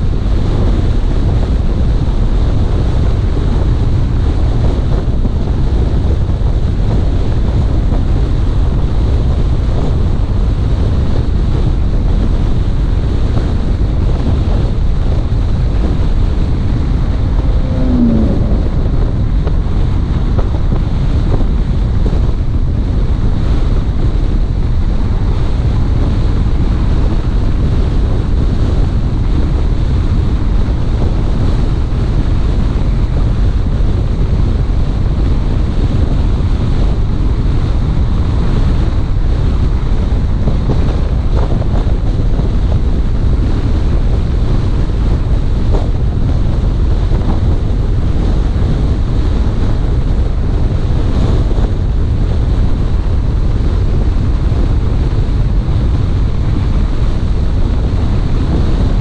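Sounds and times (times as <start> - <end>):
car road noise: 0.0 - 59.0
wind buffeting microphone: 0.0 - 59.0.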